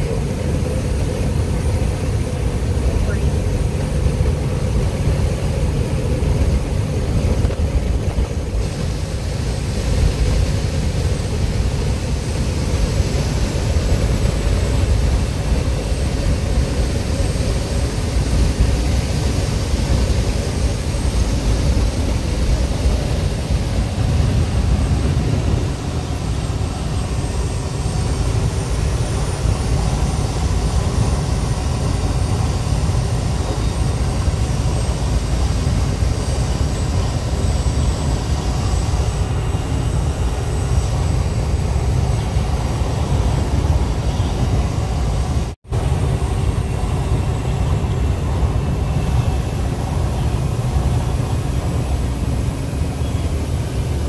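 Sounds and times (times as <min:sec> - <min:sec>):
engine and road noise drone: 0:00.0 - 0:54.0
faint high whine: 0:00.0 - 0:54.0.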